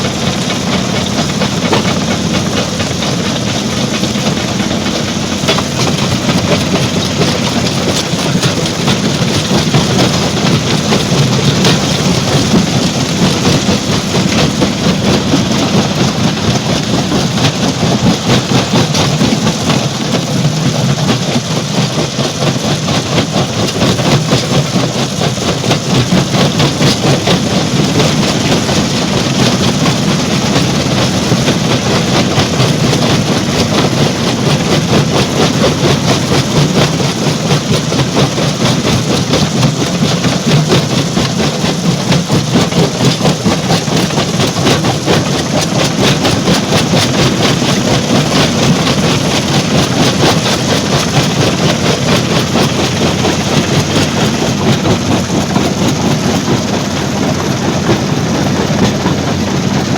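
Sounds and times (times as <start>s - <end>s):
stone crusher running: 0.0s - 59.9s.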